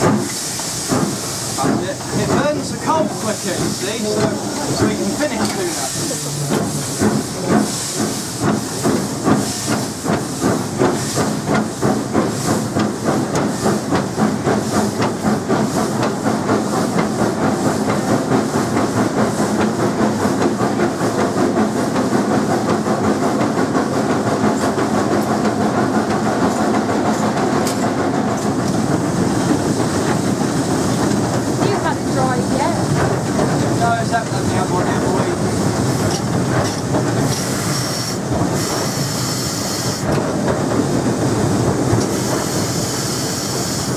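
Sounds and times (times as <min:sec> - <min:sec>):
steam hiss: 0:00.0 - 0:43.9
steam locomotive exhaust beats: 0:00.0 - 0:43.9.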